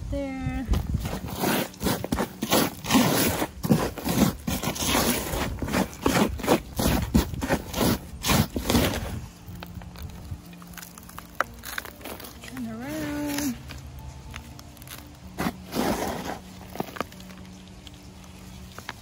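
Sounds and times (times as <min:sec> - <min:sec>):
soil scraping and crunching: 0:00.1 - 0:19.0.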